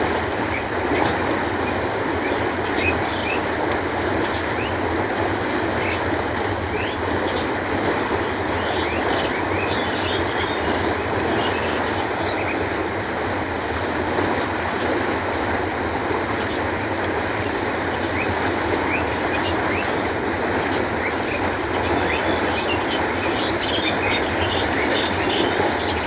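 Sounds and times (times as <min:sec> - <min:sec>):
canal water flowing: 0:00.0 - 0:26.0.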